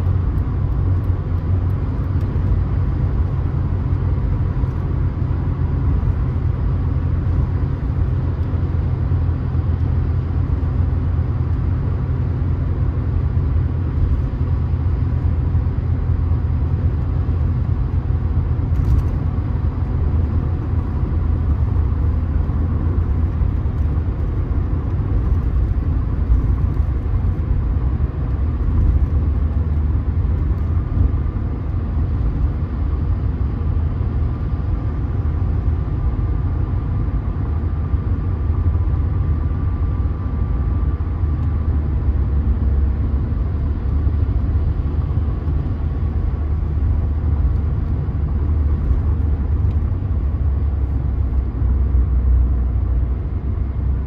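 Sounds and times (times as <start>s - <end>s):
car engine noise: 0.0s - 54.0s
road and tyre rumble: 0.0s - 54.0s.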